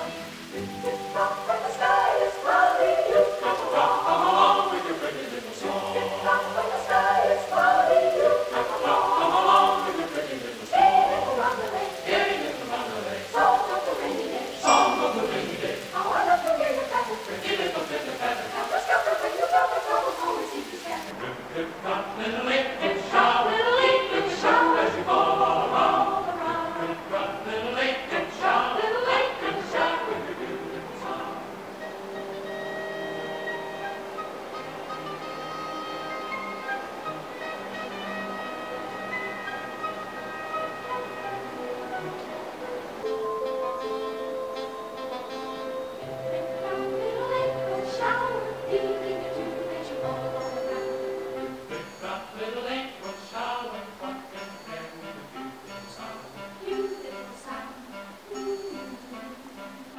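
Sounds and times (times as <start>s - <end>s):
choir-like singing: 0.0s - 59.9s.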